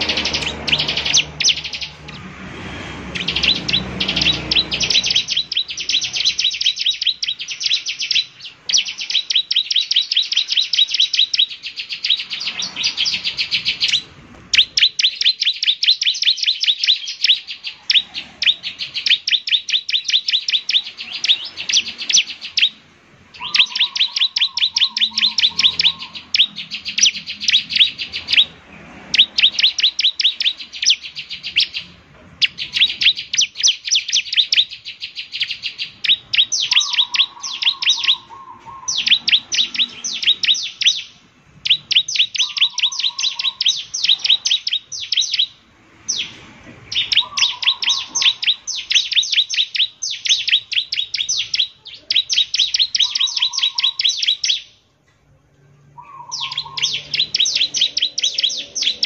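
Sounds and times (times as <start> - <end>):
bird rapid high chirping song: 0.0 - 55.0, 55.8 - 59.0.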